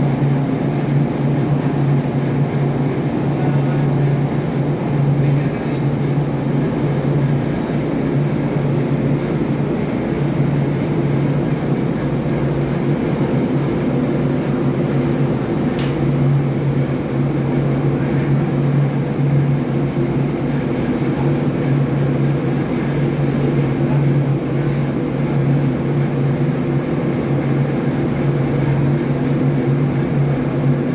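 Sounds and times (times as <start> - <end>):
engine room machinery drone: 0.0 - 30.9.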